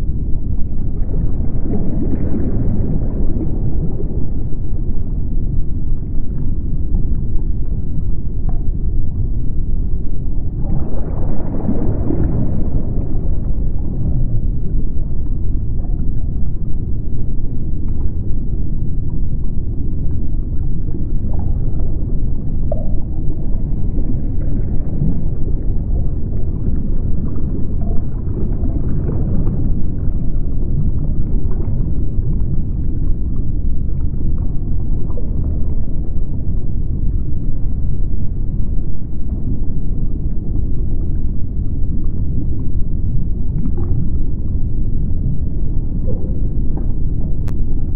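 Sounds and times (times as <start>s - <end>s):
underwater rumble and wash: 0.0s - 47.9s.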